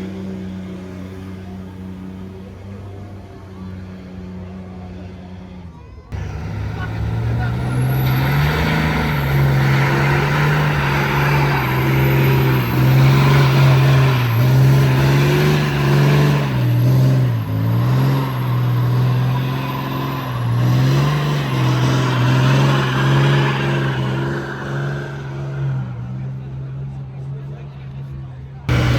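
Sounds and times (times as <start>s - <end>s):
diesel engine at high revs: 0.0s - 28.9s.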